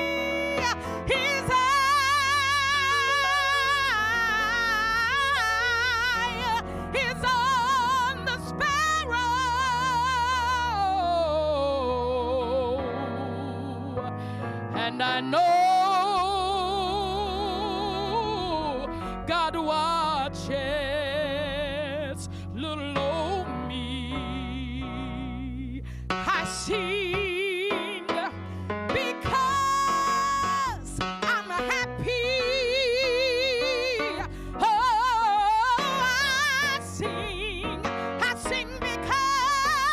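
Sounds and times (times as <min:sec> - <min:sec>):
woman singing with vibrato: 0:00.0 - 0:14.0, 0:14.7 - 0:39.9.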